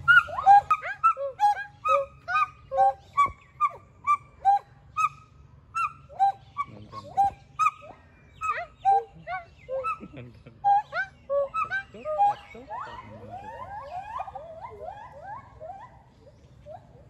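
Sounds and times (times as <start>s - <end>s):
gibbon whooping hoots: 0.0s - 5.1s, 5.8s - 16.1s.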